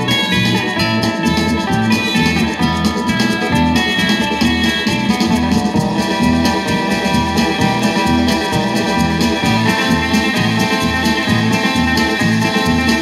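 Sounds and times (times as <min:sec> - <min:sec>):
instrumental rock and roll record: 0:00.0 - 0:13.0.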